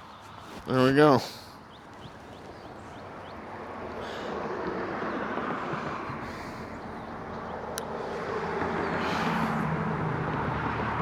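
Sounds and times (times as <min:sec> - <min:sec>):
vehicle passing on road: 0:01.8 - 0:11.0.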